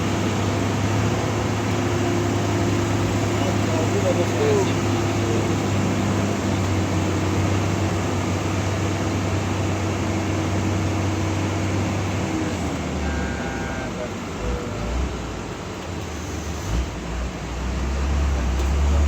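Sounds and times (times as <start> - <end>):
truck diesel engine under load: 0.0 - 19.0.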